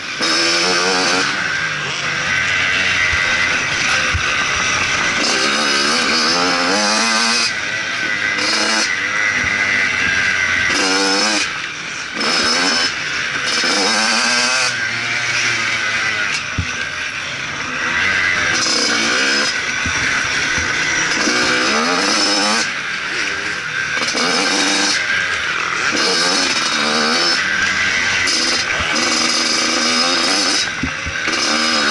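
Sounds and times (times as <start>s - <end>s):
motorcycle engine revving: 0.0s - 31.9s
steady rushing noise: 1.1s - 12.2s, 12.8s - 31.9s.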